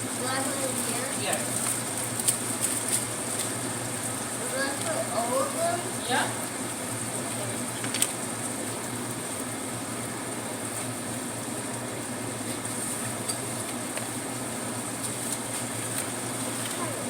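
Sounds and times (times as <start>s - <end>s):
hiss and low hum from stove: 0.0s - 17.0s.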